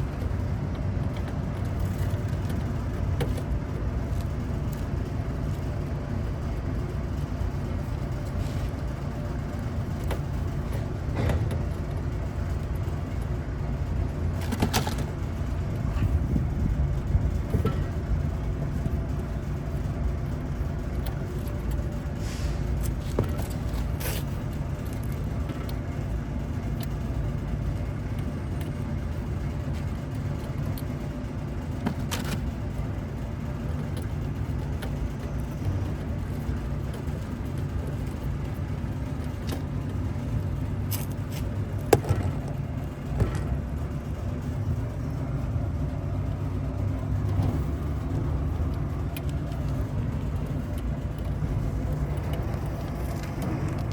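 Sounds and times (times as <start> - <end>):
low mechanical rumble: 0.0 - 53.9.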